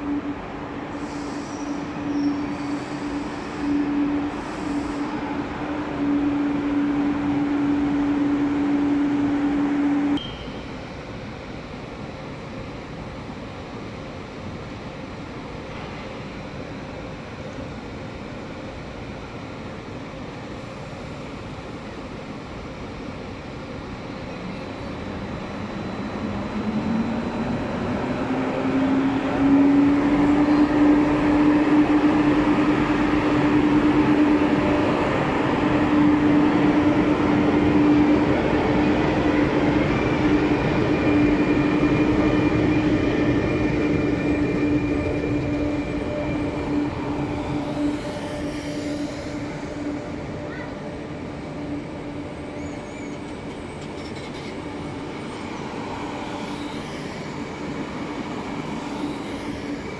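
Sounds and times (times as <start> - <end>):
electric locomotive whine: 0.0 - 59.9
train rolling past: 0.0 - 59.9.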